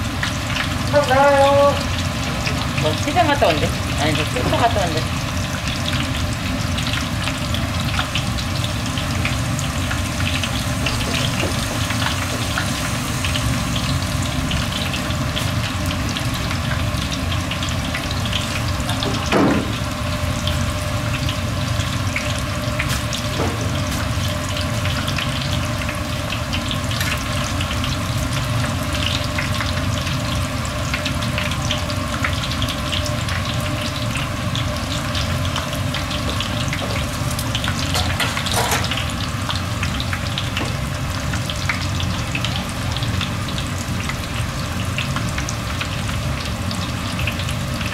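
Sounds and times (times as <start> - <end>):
food deep-frying in oil: 0.0 - 47.9.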